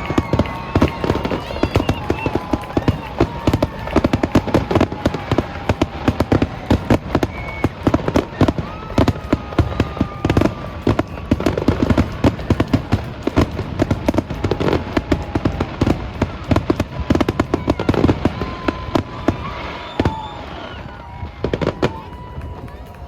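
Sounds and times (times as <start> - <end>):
fireworks cracks and bangs: 0.0 - 23.0
fireworks whistles: 0.0 - 23.0.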